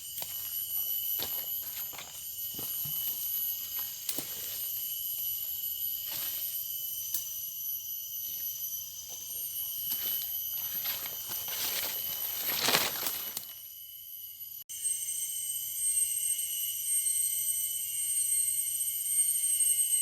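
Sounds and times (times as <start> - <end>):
high-pitched ringing chorus: 0.0 - 20.0.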